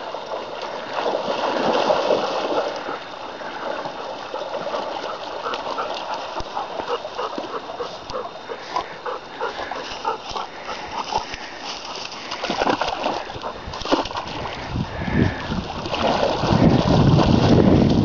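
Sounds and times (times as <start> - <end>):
water splashing: 0.0 - 18.0.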